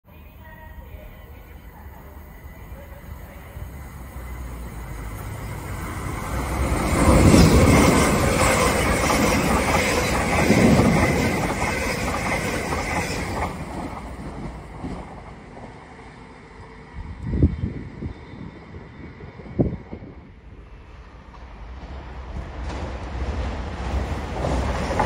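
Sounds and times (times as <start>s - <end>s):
electric train passing: 0.1s - 25.0s.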